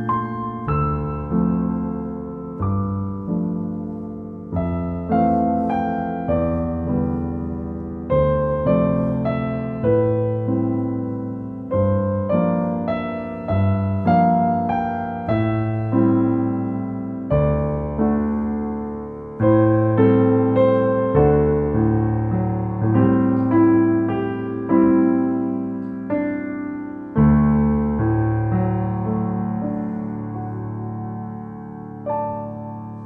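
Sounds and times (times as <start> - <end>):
slow gentle piano piece: 0.0 - 33.0.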